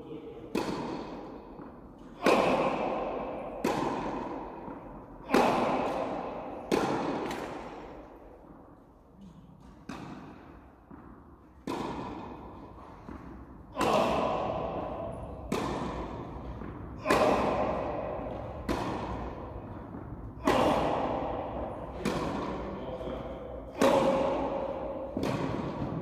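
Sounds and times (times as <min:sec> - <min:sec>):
tennis balls struck by rackets: 0:00.3 - 0:26.0.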